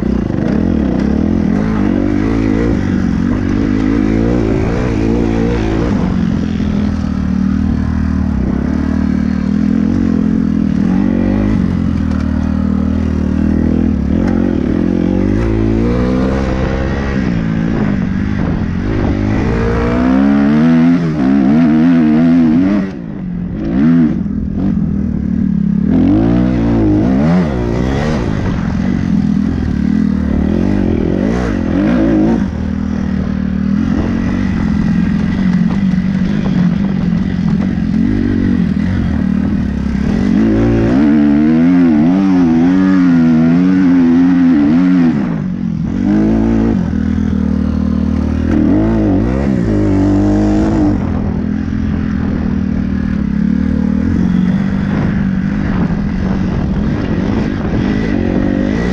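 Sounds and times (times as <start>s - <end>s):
wind rushing over microphone: 0.0s - 12.2s, 12.8s - 58.9s
dirt bike engine revving: 0.0s - 58.9s.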